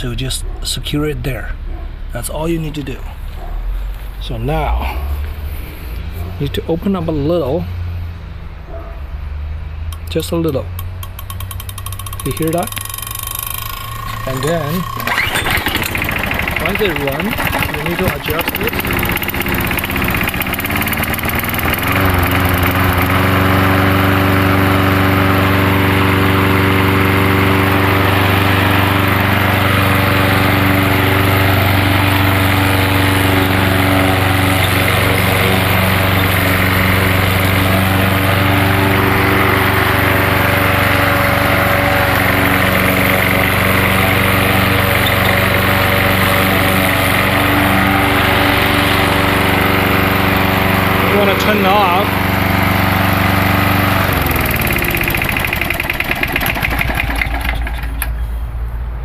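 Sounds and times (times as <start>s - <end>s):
lawnmower engine running: 9.9s - 58.4s.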